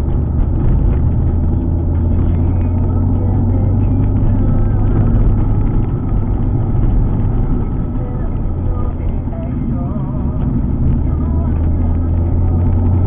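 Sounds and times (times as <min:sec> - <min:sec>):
car engine low drone: 0:00.0 - 0:13.0
tyre and road noise: 0:00.0 - 0:13.0.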